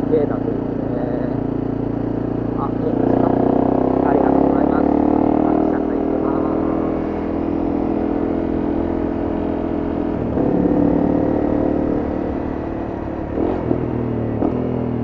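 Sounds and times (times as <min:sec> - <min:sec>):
motorbike engine speeding up: 0:00.0 - 0:15.0.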